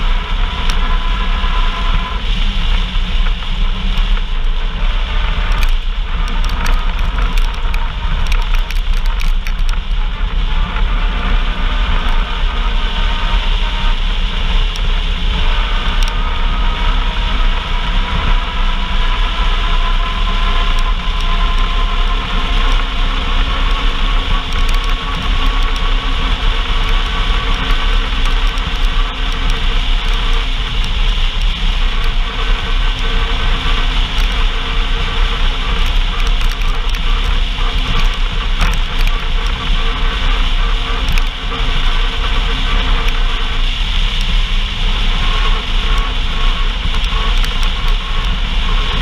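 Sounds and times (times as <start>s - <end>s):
off-road vehicle engine running: 0.0s - 49.0s.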